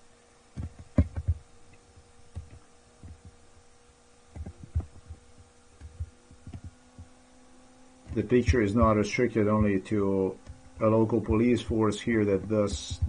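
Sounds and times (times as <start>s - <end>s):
faint electrical hum: 0.0s - 13.0s
soft low thumps: 0.5s - 3.5s, 4.3s - 7.2s, 8.0s - 13.0s.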